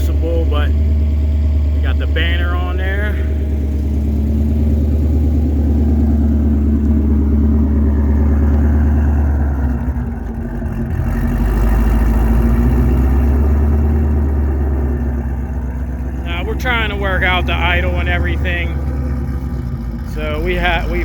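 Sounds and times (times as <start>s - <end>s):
supercharged car engine idling: 0.0s - 21.0s.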